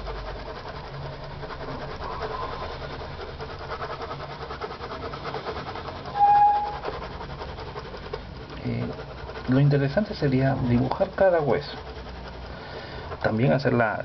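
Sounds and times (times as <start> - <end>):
pencil scratching on card: 0.0 - 14.0.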